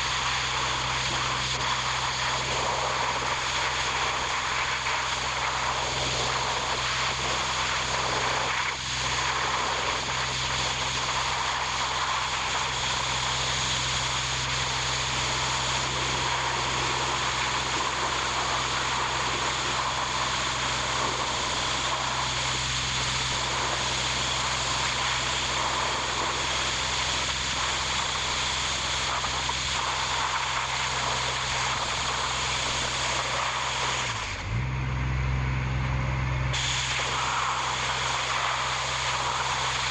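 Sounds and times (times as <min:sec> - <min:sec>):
machine humming and hissing: 0:00.0 - 0:39.9.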